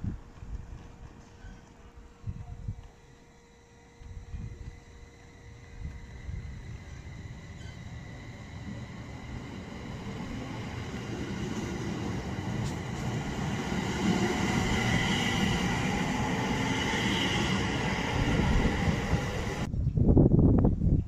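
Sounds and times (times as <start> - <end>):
electric train running past: 0.0 - 19.7.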